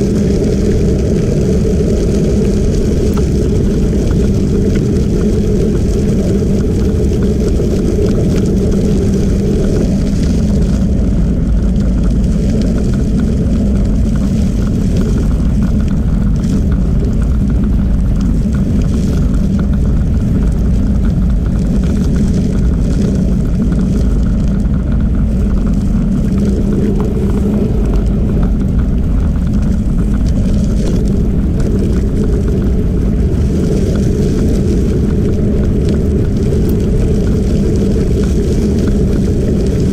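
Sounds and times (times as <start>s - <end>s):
tyres rolling over gravel: 0.0s - 39.9s
wind on microphone: 0.0s - 39.9s.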